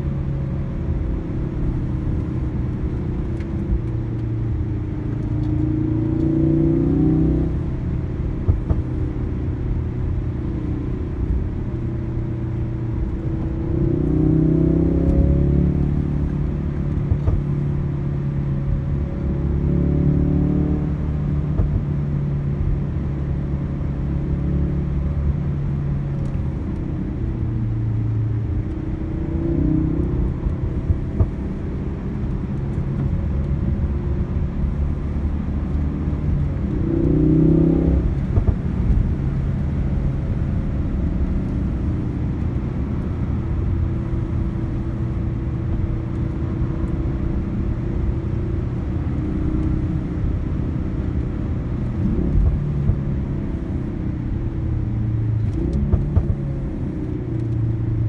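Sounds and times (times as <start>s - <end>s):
car engine: 0.0s - 58.0s
road rumble: 0.0s - 58.0s.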